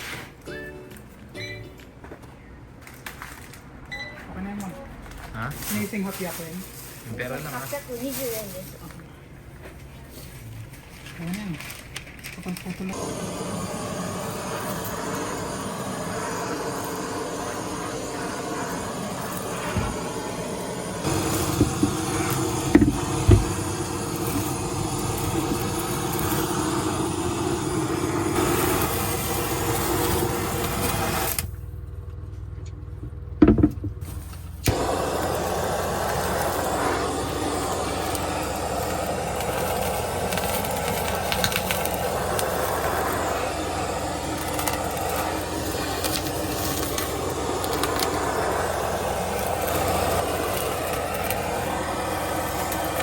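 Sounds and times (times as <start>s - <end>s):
vehicle and street noise: 0.0s - 53.0s.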